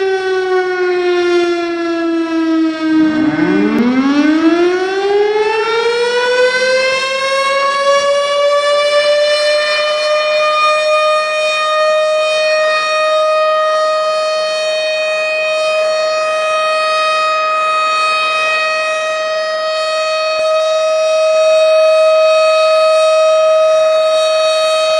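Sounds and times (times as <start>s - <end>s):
siren wailing: 0.0s - 24.9s.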